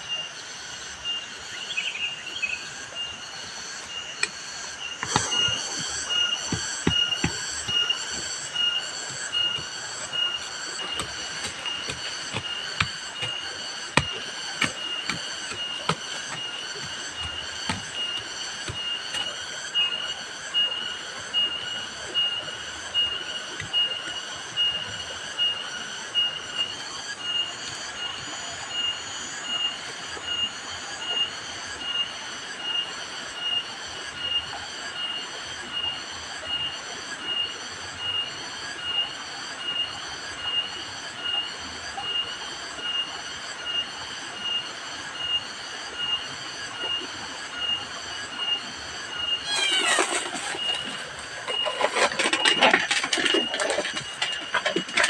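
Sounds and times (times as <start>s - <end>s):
insects buzzing in chorus: 0.0s - 55.0s.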